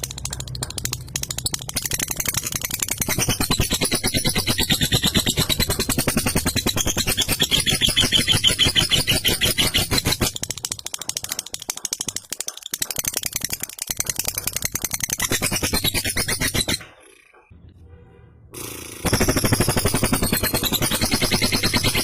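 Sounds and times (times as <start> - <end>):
lovebird chattering: 0.0 - 17.5, 18.6 - 22.0.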